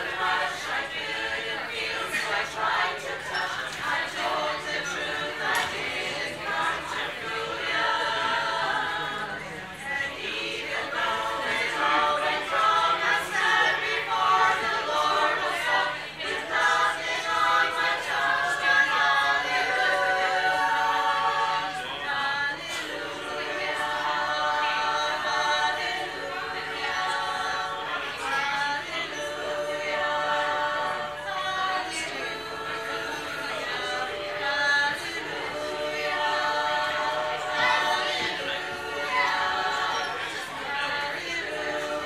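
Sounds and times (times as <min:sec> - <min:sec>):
women's choir singing in harmony: 0:00.0 - 0:42.0.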